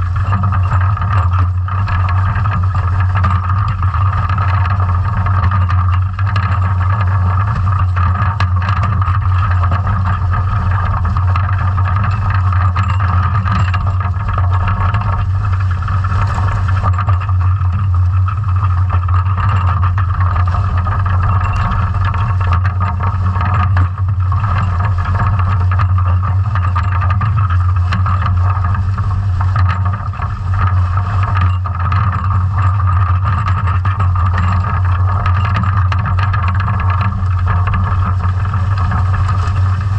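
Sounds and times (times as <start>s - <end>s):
small clicks and knocks: 0.0s - 39.9s
steady low hum: 0.0s - 39.9s.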